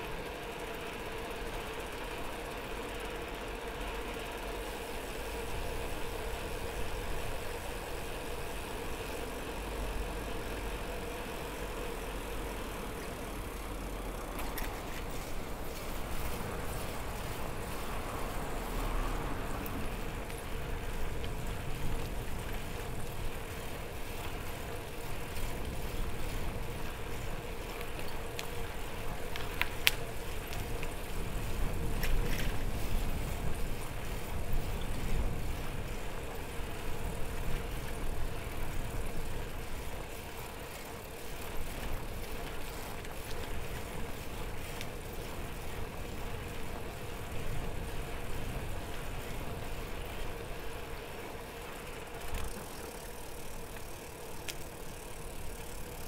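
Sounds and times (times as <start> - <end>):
bicycle tyre road noise: 0.0 - 56.0.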